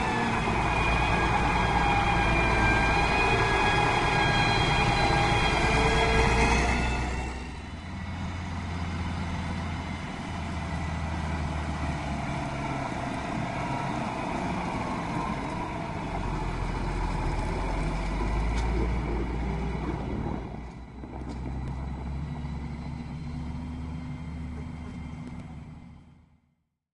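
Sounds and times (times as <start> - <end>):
heavy diesel machinery droning: 0.0 - 26.5.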